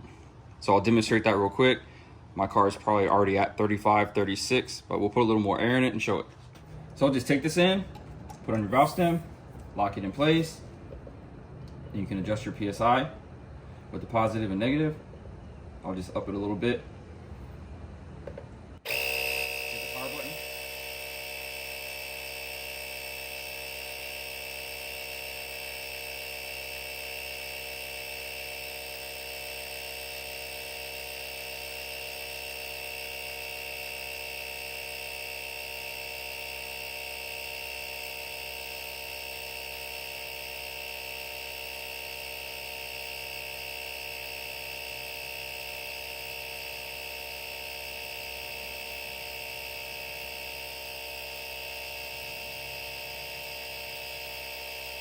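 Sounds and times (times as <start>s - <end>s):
air compressor whining: 5.8s - 15.1s, 18.2s - 55.0s.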